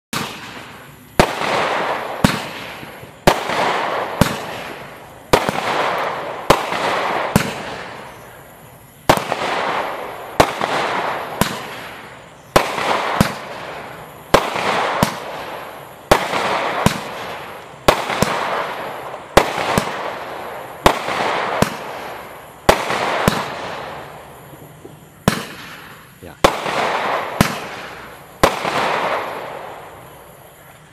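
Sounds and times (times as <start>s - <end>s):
firework shots banging and hissing: 0.1s - 30.9s.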